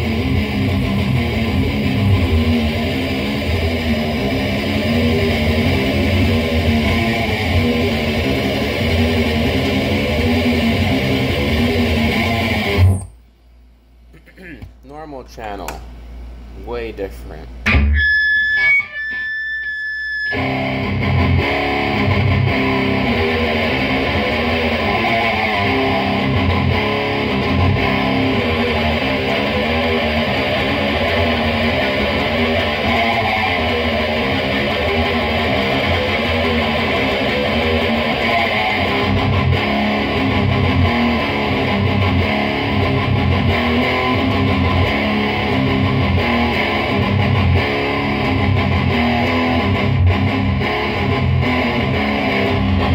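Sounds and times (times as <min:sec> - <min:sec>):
distorted electric guitar riffing: 0:00.0 - 0:13.1, 0:17.6 - 0:52.9.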